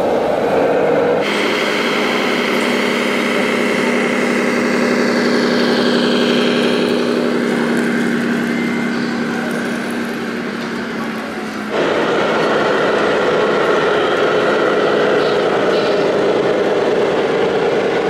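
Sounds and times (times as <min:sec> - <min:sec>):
model truck motor hum and whine: 0:00.0 - 0:18.0.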